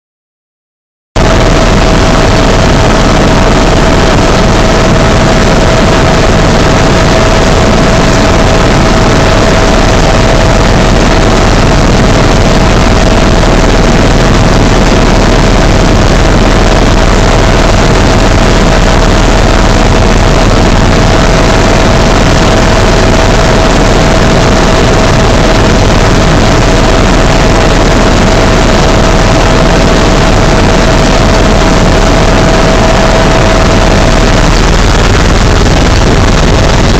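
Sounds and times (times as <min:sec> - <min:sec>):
helicopter cabin engine and rotor: 0:01.2 - 0:36.9.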